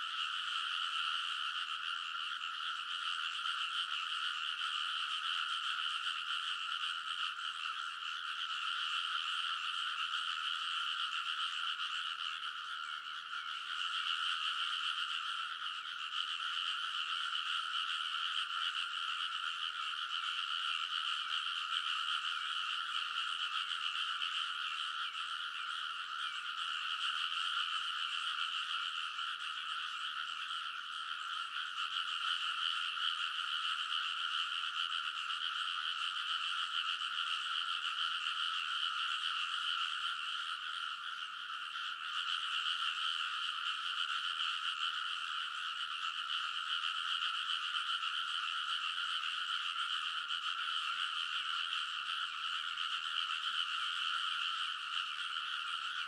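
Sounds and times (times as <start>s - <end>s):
frogs croaking in chorus: 0.0s - 56.0s.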